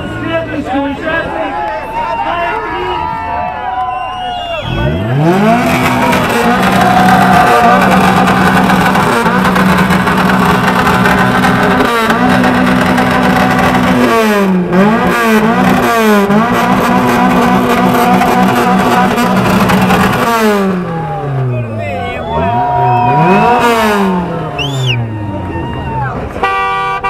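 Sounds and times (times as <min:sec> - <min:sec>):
car engine revving: 0:04.6 - 0:26.7.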